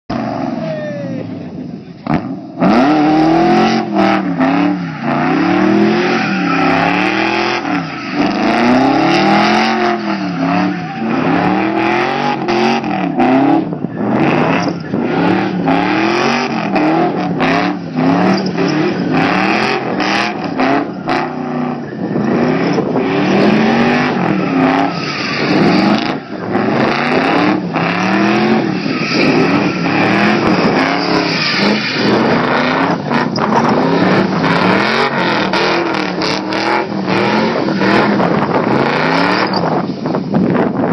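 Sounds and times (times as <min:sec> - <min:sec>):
car engine revving hard: 0:02.0 - 0:40.9.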